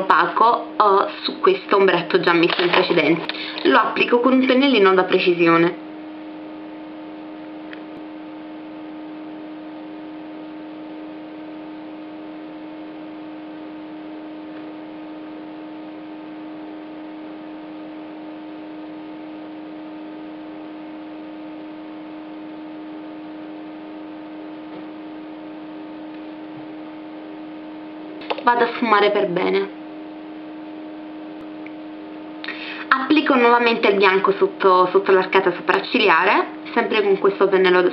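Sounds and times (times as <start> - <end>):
steady electrical hum: 0.0 - 37.9.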